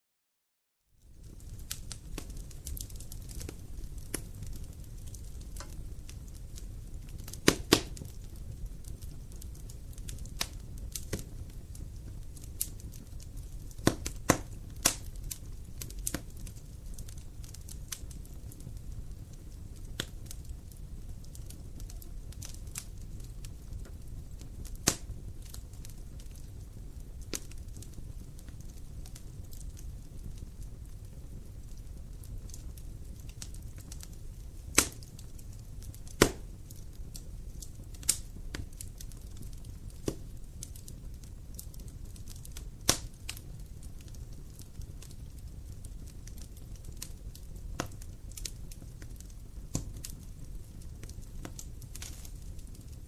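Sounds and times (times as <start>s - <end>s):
wood fire crackling and popping: 0.9s - 53.0s.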